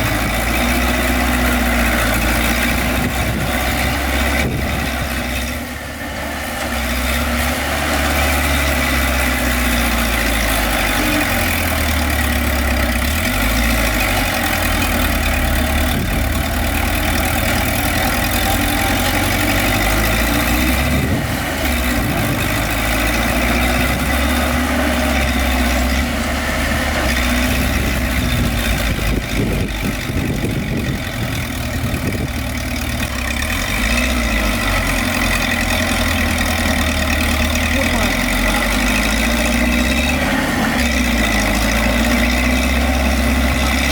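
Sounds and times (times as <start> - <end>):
heavy diesel engines running: 0.0 - 43.9.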